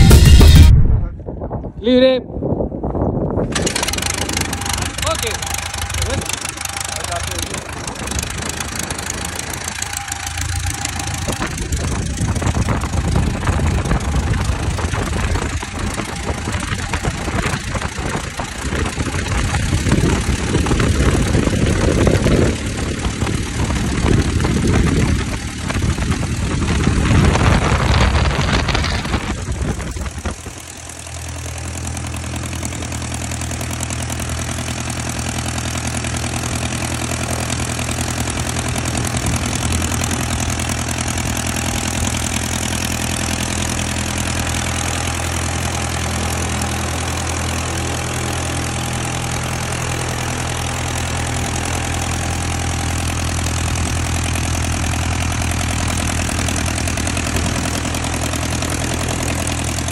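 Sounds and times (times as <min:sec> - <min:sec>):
aircraft engine idling: 0:03.3 - 0:59.9.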